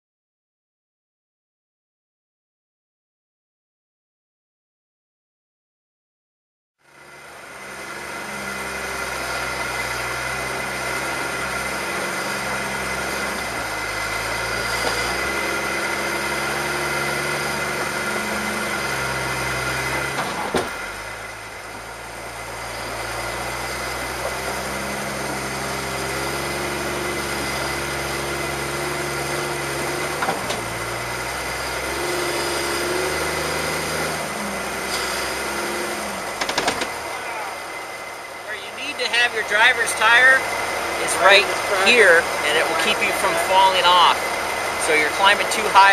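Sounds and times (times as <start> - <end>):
car engine revving: 6.9 - 45.9.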